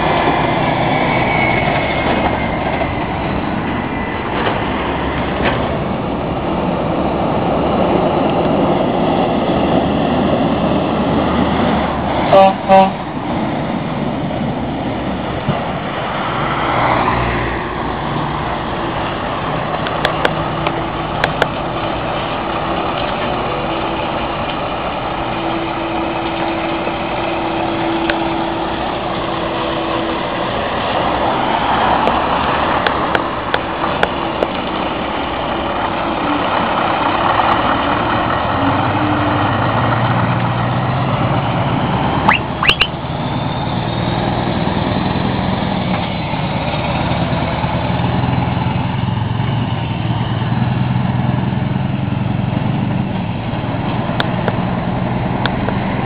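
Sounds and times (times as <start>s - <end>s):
heavy lorries driving past: 0.0s - 56.0s.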